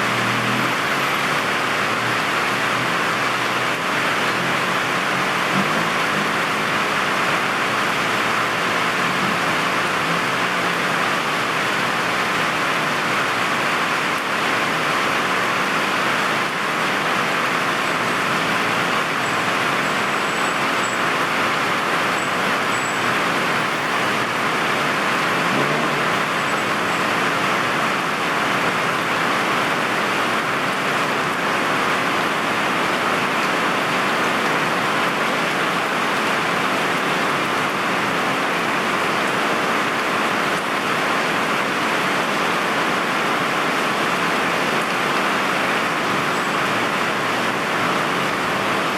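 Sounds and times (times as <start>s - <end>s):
heavy rain on street: 0.0s - 48.9s
traffic hiss on wet road: 0.0s - 48.9s.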